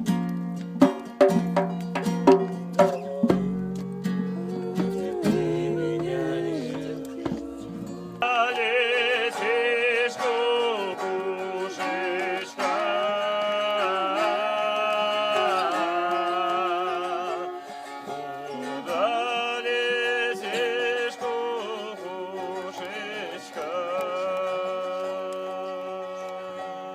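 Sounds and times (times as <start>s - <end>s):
plucked strings: 0.0s - 26.9s
wavering melody with vibrato: 2.9s - 26.9s.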